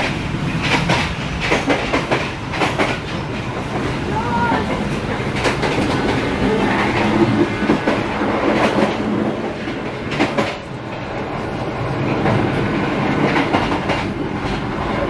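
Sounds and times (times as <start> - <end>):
train carriage rumble and rattle: 0.0 - 15.0.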